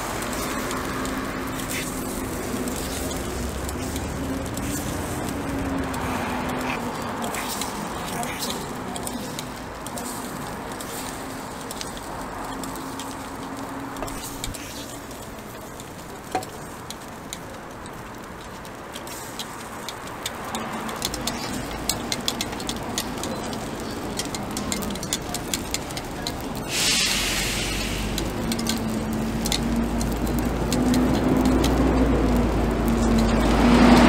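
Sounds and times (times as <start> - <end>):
background murmur: 0.0 - 34.0
metal picks clicking on iron pan: 0.2 - 26.6, 27.9 - 34.0.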